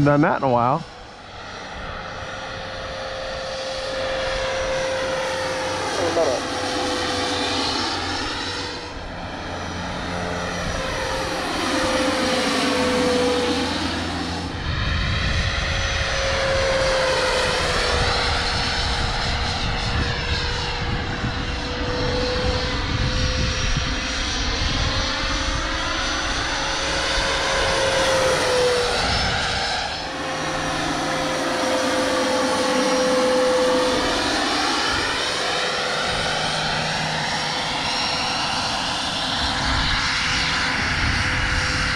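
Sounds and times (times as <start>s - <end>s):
model helicopter whine: 0.0s - 41.9s.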